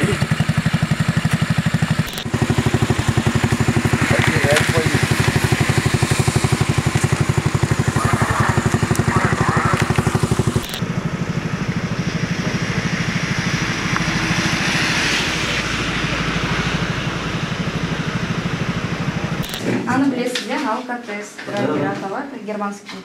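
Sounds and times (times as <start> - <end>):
vehicle engine idling: 0.0 - 20.2.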